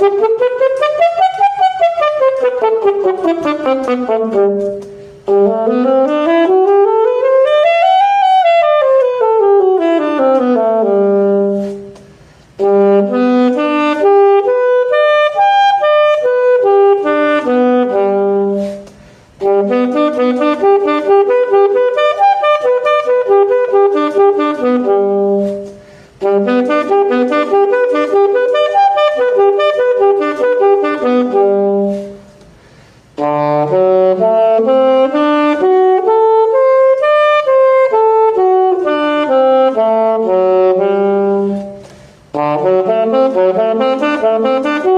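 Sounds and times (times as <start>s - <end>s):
saxophone playing scales: 0.0s - 44.9s.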